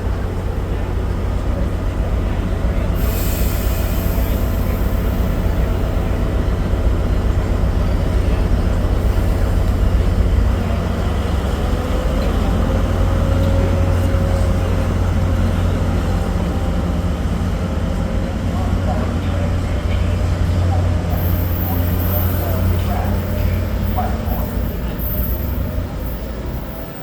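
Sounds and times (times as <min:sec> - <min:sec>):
diesel train rumbling: 0:00.0 - 0:27.0.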